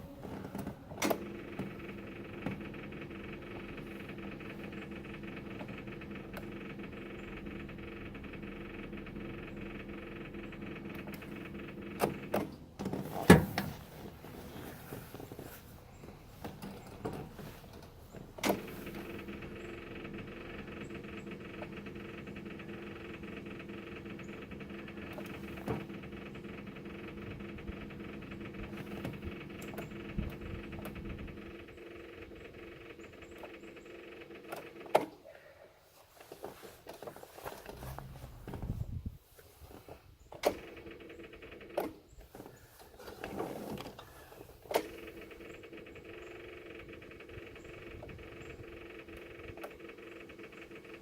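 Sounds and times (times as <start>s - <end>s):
excavator machinery humming: 0.0s - 51.0s
clicks: 0.1s - 35.2s, 39.4s - 51.0s.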